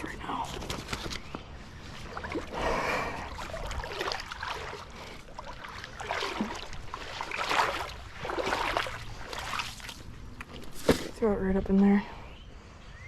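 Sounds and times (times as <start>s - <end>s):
wading through shallow water: 0.0s - 11.4s.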